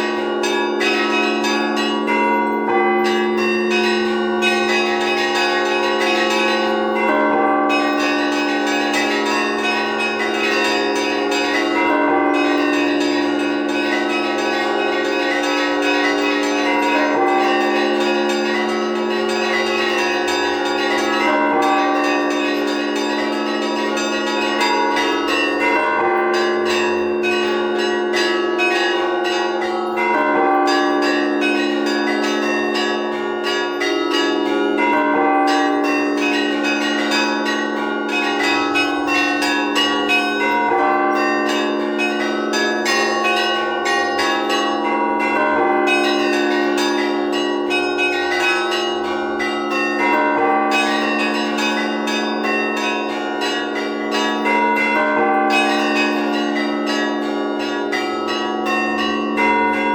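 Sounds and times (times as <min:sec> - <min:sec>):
large low bells ringing: 0:00.0 - 0:59.9.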